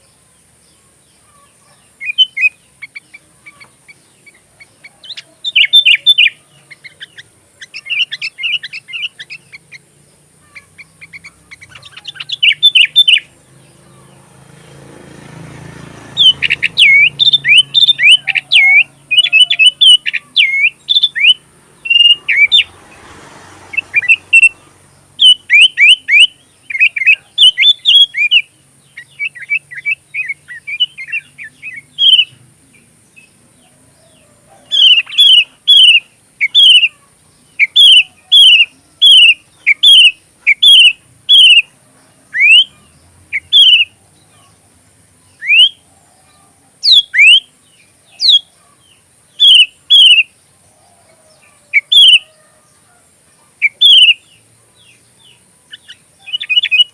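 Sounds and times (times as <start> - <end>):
bird singing chirpy notes: 0.0 - 56.9.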